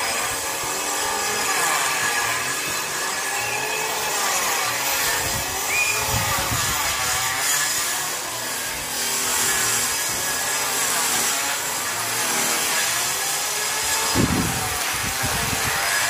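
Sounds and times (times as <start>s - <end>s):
power tool cutting wood: 0.0s - 16.0s.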